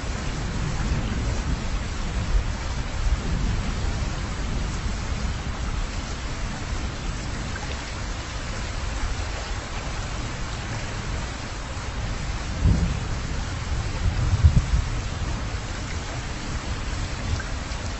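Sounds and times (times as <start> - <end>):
car road and wind noise: 0.0 - 17.9.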